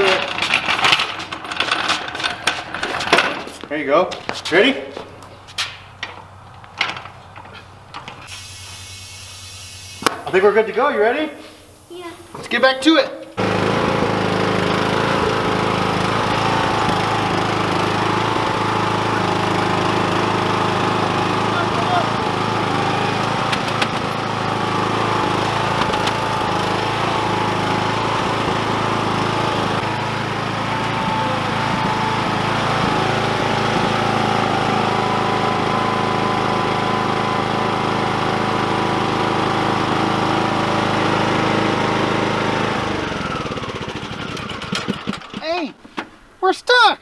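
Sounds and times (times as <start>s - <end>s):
riding lawn mower engine: 0.0s - 4.4s, 5.0s - 12.7s, 13.3s - 46.3s.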